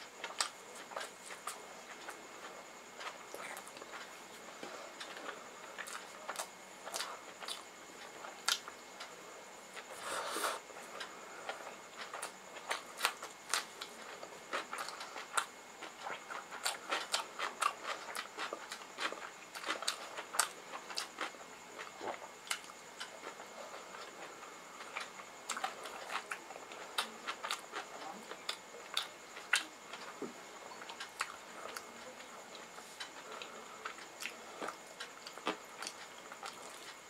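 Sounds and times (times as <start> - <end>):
chewing and lip smacks: 0.2 - 9.2, 10.8 - 37.0.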